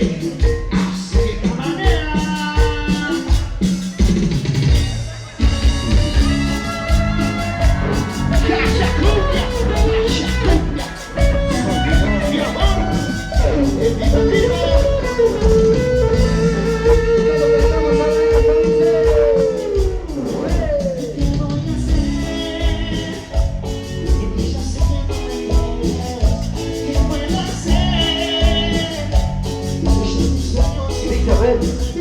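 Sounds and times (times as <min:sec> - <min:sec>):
band playing instrumental: 0:00.0 - 0:32.0.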